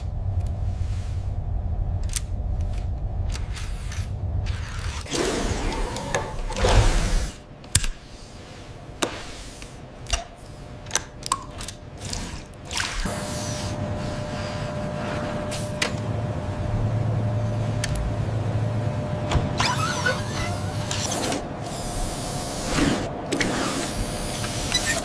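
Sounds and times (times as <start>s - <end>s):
low machine hum: 0.0s - 9.0s, 9.8s - 24.8s.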